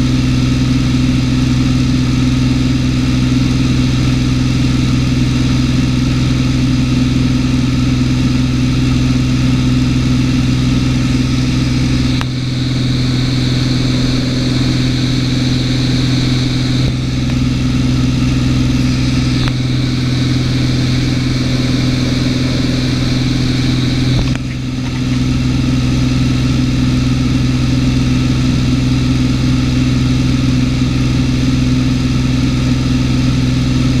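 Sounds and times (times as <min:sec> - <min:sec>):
airplane engine droning in cabin: 0:00.0 - 0:34.0.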